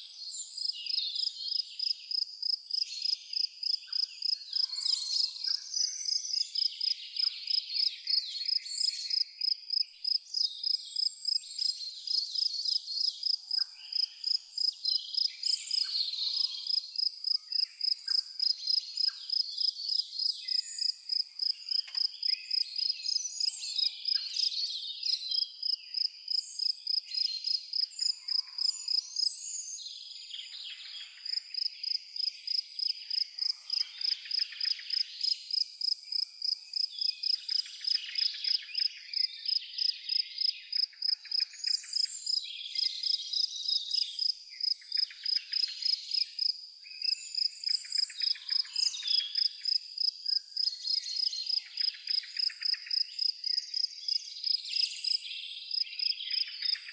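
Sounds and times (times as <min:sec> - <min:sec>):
insect chirping: 0:00.6 - 0:56.8.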